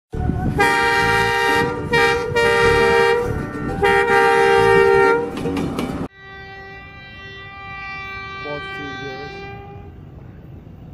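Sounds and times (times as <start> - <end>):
chord horn blasts: 0.5 - 5.4, 6.0 - 10.5.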